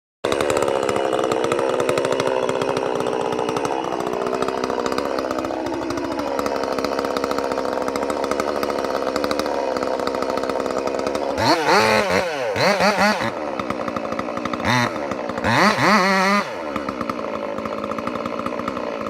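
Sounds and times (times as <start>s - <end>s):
chainsaw running: 0.2s - 19.0s.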